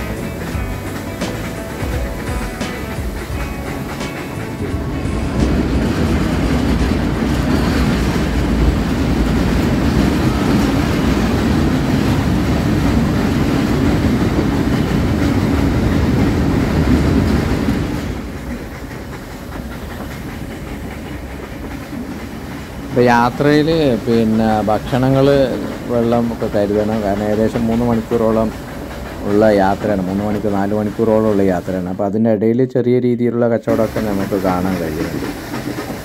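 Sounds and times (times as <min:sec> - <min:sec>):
train wheels and carriages rumbling: 0:00.0 - 0:32.4, 0:33.3 - 0:36.0.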